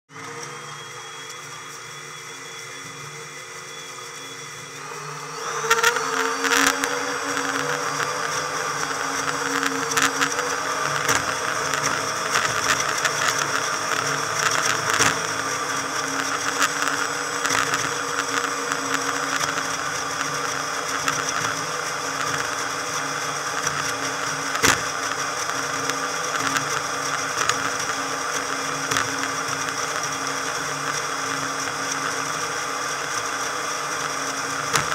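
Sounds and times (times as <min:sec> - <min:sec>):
high whiny motorboat engine: 0:00.2 - 0:34.9.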